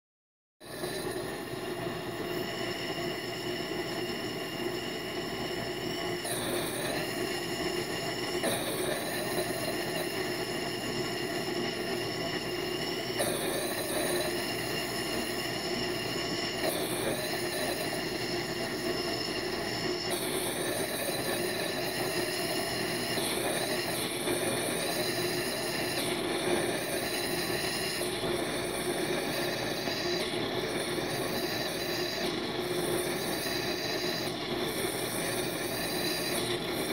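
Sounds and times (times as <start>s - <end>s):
gas venting hiss: 0.6s - 36.9s.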